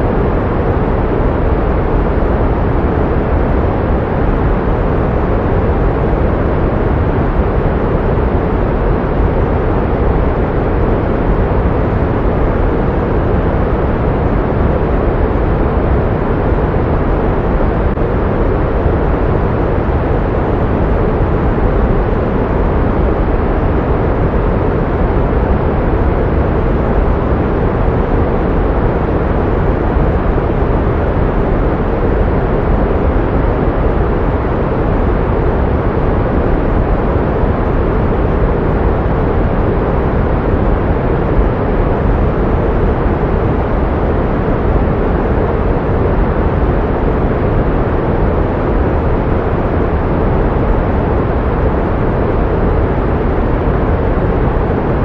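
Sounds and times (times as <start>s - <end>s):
pink noise hiss: 0.0s - 55.0s.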